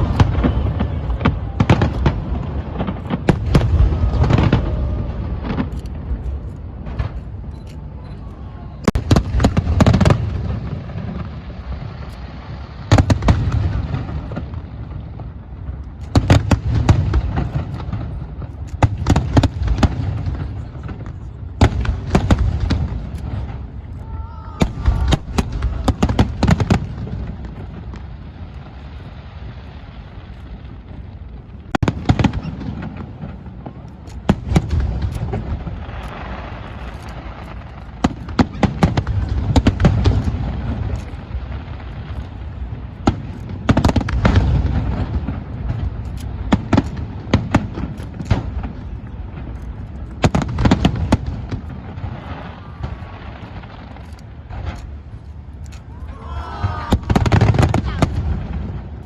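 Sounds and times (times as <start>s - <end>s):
fireworks sharp bangs: 0.0s - 59.0s.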